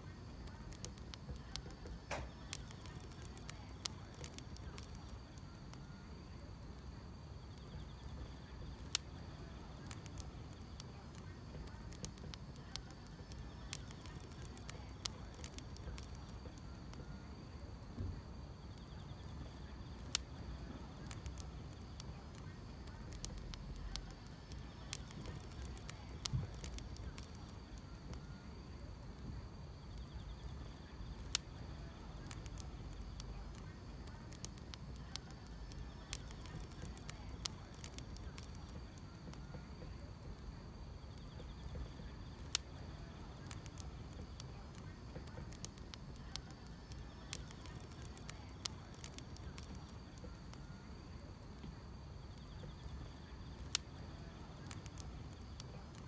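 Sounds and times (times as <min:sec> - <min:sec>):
crickets chirring: 0:00.0 - 0:56.0
low fire rumble: 0:00.0 - 0:56.0
firewood popping: 0:00.2 - 0:05.8, 0:06.6 - 0:17.1, 0:18.1 - 0:56.0.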